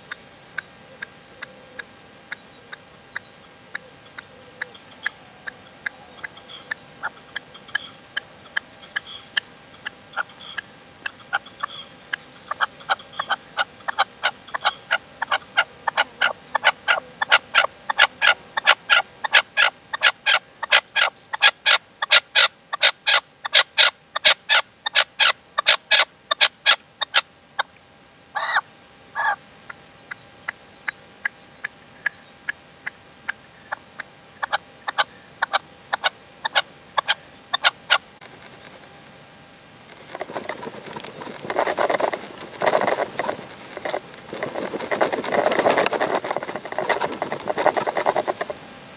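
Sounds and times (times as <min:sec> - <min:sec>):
partridge calling: 0:00.0 - 0:27.2, 0:28.4 - 0:29.4, 0:30.1 - 0:38.8, 0:44.7 - 0:48.6.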